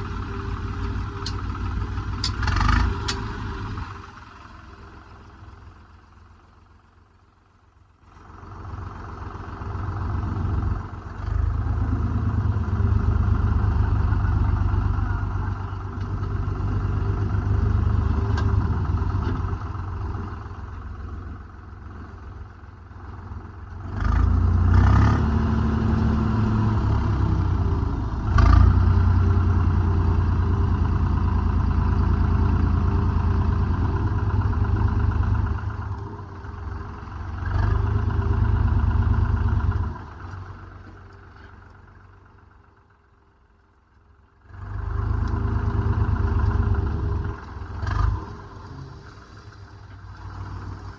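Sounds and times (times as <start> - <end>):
diesel engine revving: 0.0 - 7.1, 8.0 - 42.4, 44.3 - 50.9.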